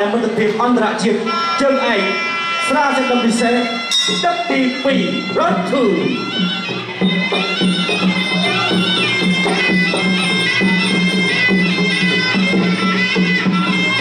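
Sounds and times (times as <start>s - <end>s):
reed oboe melody: 1.2s - 14.0s.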